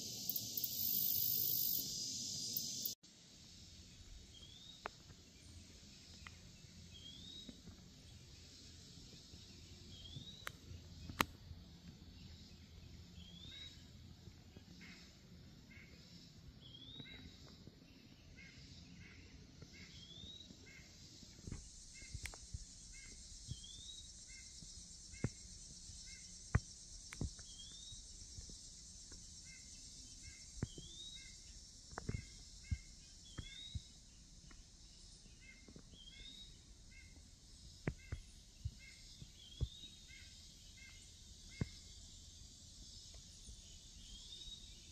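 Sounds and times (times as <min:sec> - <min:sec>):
high insect hum: 0:00.0 - 0:44.9.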